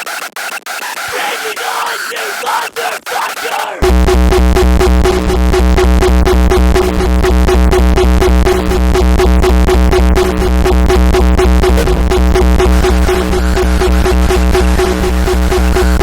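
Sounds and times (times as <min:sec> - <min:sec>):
hardcore electronic music: 0:00.0 - 0:16.0.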